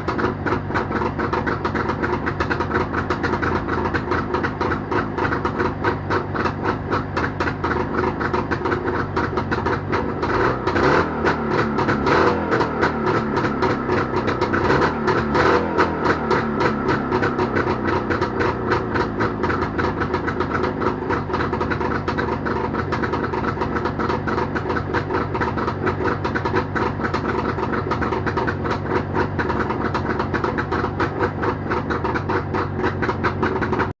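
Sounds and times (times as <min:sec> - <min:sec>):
two-stroke motorcycle engine running: 0:00.0 - 0:34.0.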